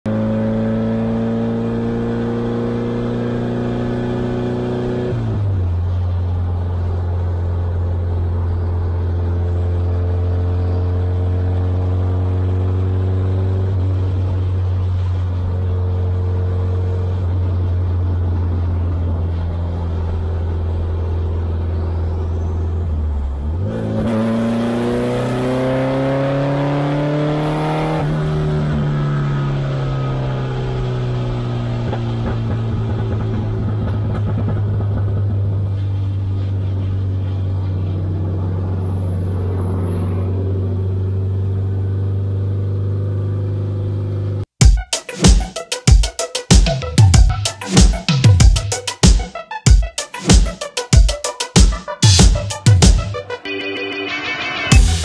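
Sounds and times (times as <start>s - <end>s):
car engine from inside cabin: 0.1s - 44.5s.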